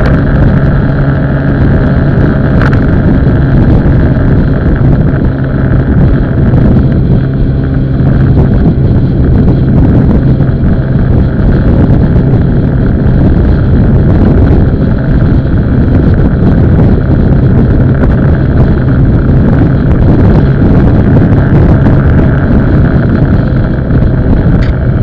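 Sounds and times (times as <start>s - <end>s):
motorbike engine running: 0.0s - 25.0s
wind buffeting microphone: 0.0s - 25.0s.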